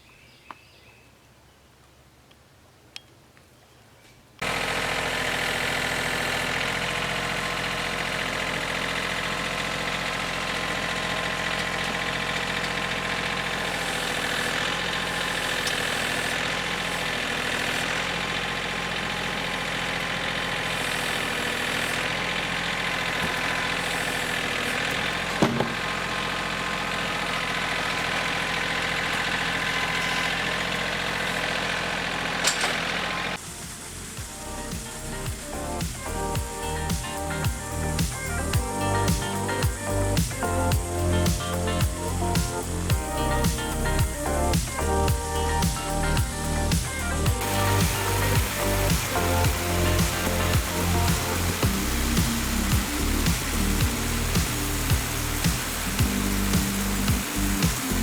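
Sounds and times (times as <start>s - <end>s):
sawmill engine running: 4.4s - 58.0s.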